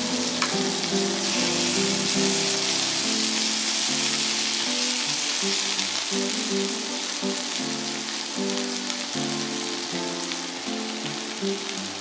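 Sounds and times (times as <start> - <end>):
background music: 0.0 - 12.0
vegetables sizzling in frying pan: 0.0 - 12.0.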